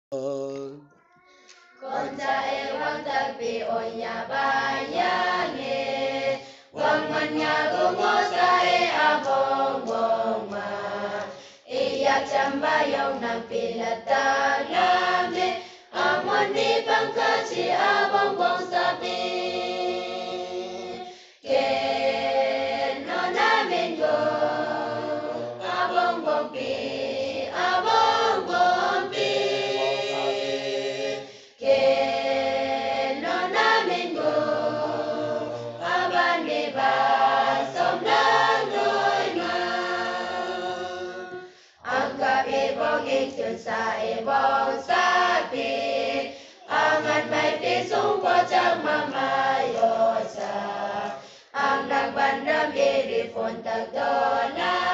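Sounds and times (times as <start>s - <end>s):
mixed choir singing a hymn: 1.8s - 54.9s.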